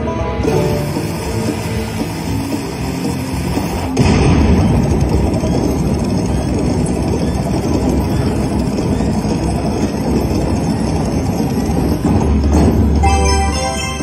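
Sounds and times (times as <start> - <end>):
slot machine rumble effect: 0.1 - 14.0.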